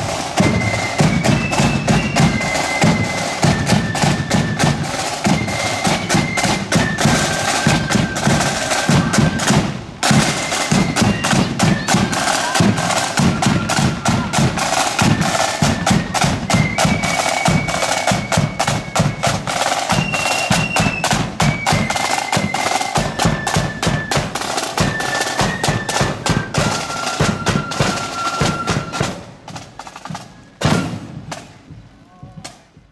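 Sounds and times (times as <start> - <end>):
snare drumming: 0.0 - 32.9
shrill high melody: 0.2 - 29.1.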